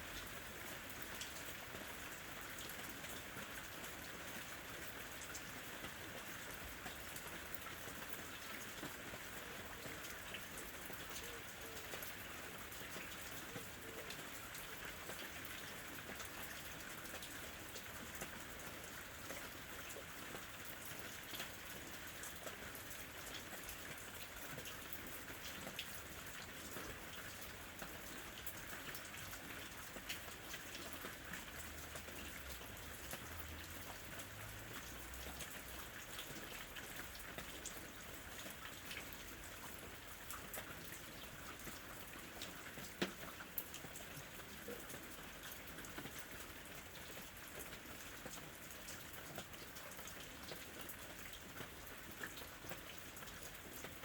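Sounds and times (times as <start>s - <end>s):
faint rain falling: 0.0s - 54.0s.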